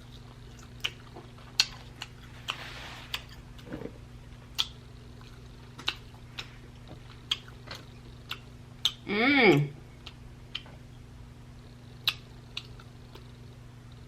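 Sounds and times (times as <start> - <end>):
closed-mouth hum: 0.0 - 14.0.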